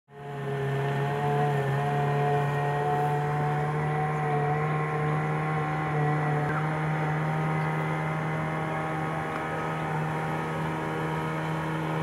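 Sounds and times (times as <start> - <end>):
boat motor humming: 0.1 - 12.0.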